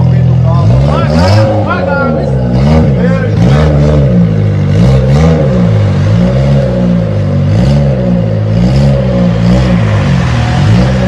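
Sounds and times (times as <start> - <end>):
deep sliding bass tone: 0.0 - 11.0.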